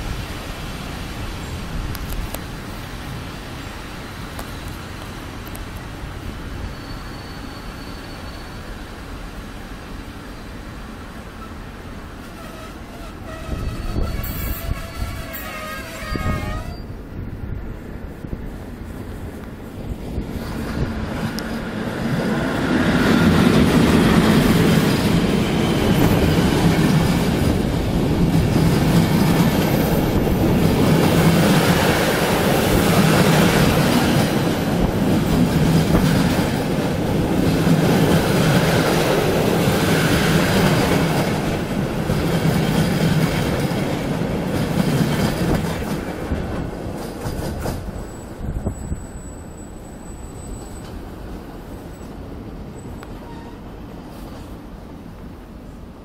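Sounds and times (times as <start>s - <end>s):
passing train wheels rumbling on rail: 0.0s - 56.0s.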